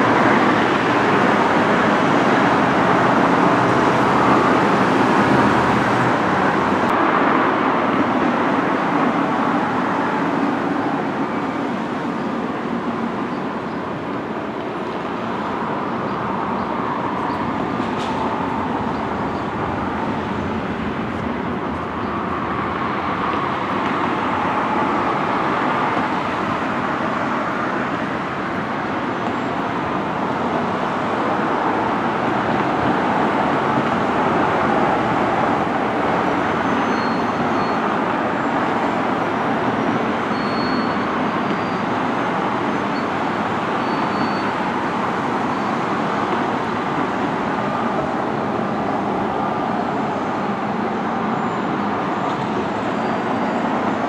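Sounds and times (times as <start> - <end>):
distant engines din: 0.0 - 54.0.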